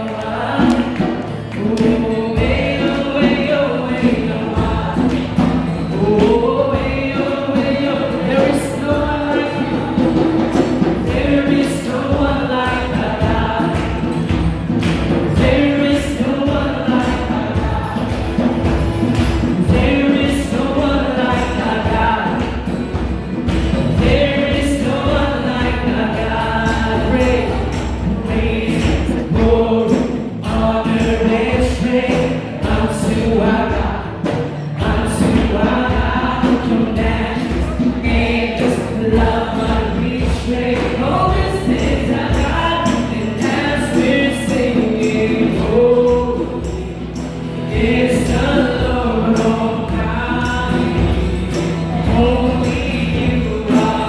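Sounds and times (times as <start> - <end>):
choir singing gospel: 0.0 - 54.0
drums keeping a beat: 0.0 - 54.0.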